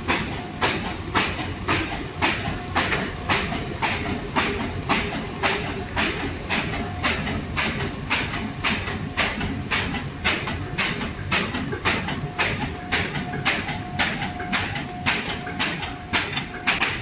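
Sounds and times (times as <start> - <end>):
machine clattering strokes: 0.0 - 17.0.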